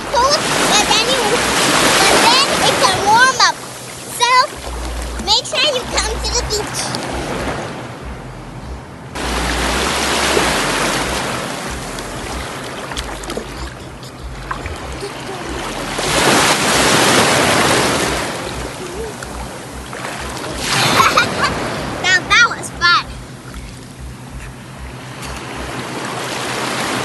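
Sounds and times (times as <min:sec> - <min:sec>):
shallow sea water lapping: 0:00.0 - 0:08.1, 0:09.2 - 0:27.0.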